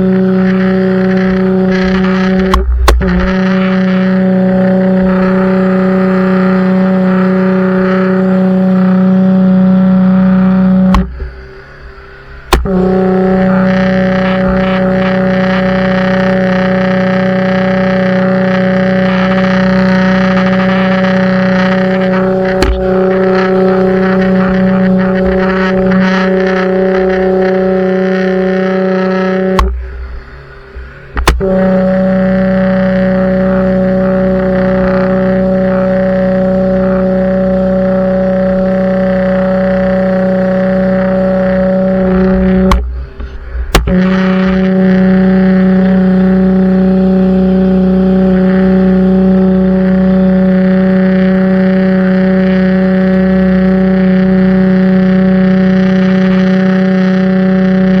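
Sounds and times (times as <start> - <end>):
pressure washer humming: 0.0 - 58.0.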